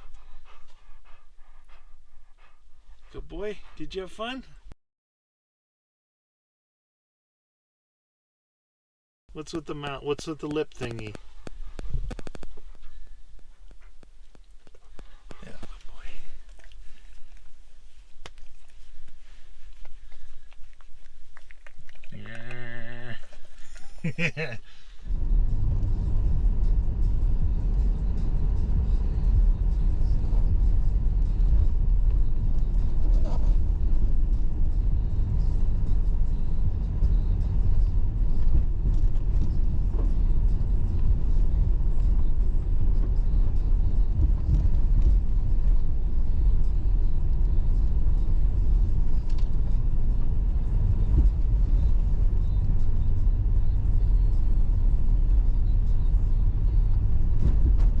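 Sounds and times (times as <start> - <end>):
car engine and road rumble: 0.0 - 4.7, 9.3 - 58.0.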